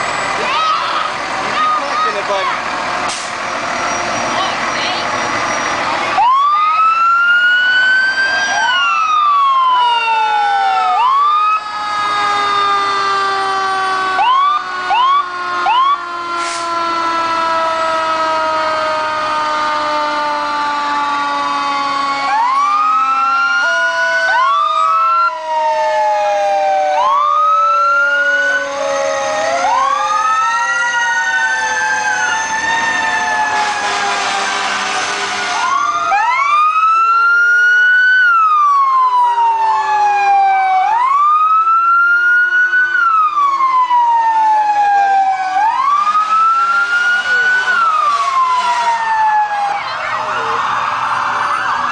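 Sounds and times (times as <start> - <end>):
fire engine sirens: 0.0 - 51.9.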